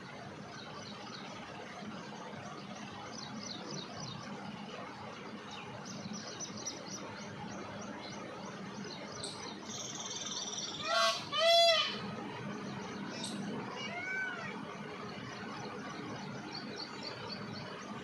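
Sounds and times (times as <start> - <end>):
outdoor background noise: 0.0 - 18.0
small birds chirping: 0.4 - 18.0.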